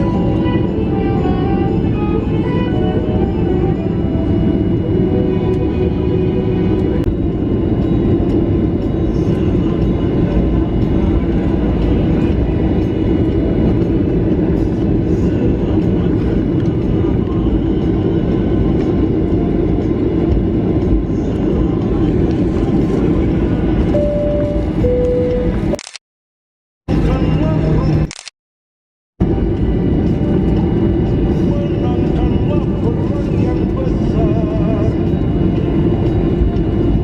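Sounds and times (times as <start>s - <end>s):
jet engine cabin rumble: 0.0s - 25.8s, 29.2s - 37.0s.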